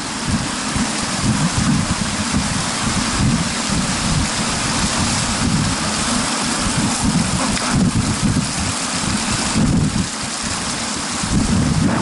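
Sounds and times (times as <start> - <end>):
rushing river water: 0.0 - 12.0
wind buffeting microphone: 0.0 - 12.0.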